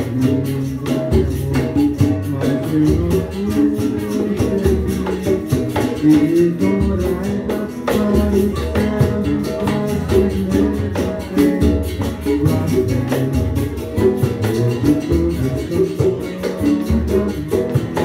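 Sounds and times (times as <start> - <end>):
bass line: 0.0 - 18.0
hand percussion beat: 0.0 - 18.0
plucked acoustic guitars: 0.0 - 18.0.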